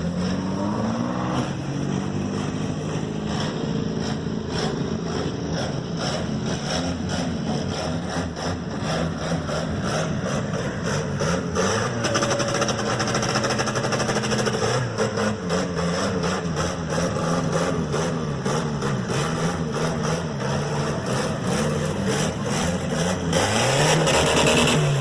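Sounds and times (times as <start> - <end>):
loud car engines revving: 0.0 - 25.0.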